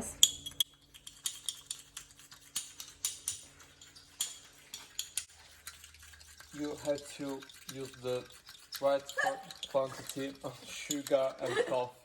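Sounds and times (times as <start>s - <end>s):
teaspoon clicking and scraping cup: 0.2s - 11.8s.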